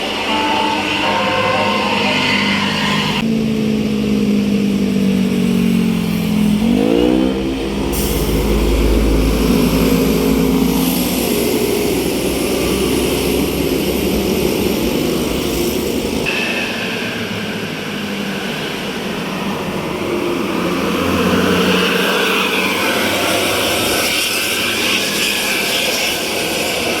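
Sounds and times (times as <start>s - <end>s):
bus engine accelerating: 0.0s - 27.0s.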